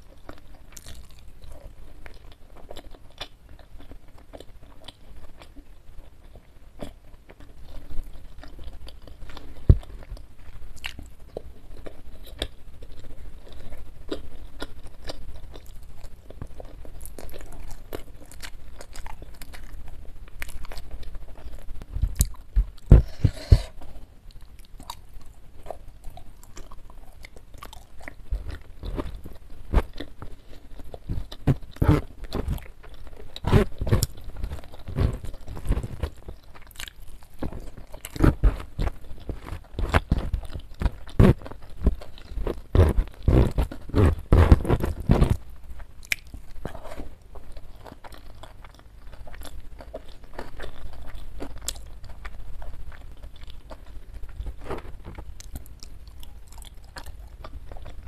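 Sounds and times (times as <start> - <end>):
crunching fried chicken: 0.0 - 58.0.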